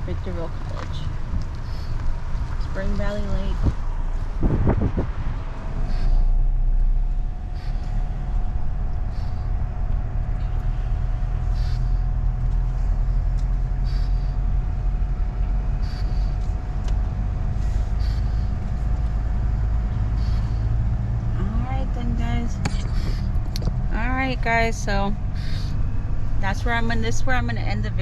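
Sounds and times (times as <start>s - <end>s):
engine and tyre rumble: 0.0s - 28.0s
faint hum: 0.0s - 28.0s.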